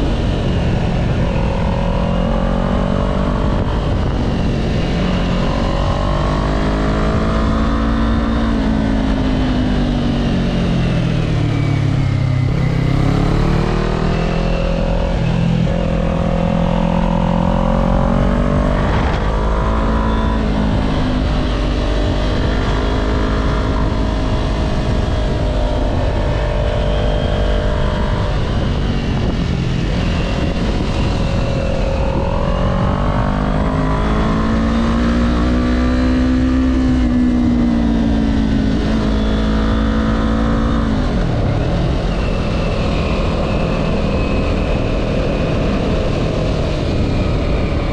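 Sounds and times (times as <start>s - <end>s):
motorcycle engine revving: 0.0s - 47.9s
wind rumble on microphone: 0.0s - 47.9s.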